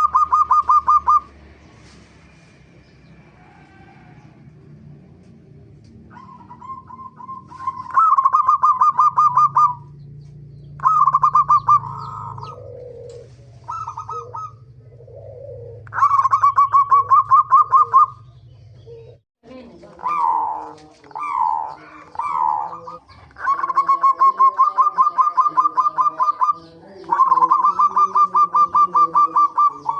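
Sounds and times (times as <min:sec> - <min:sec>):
dove cooing staccato notes: 0:00.0 - 0:01.4, 0:05.9 - 0:19.2, 0:19.9 - 0:29.9.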